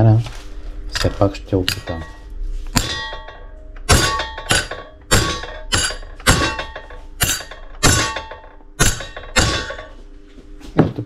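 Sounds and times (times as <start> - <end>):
hammer striking metal bolts: 1.0 - 9.9.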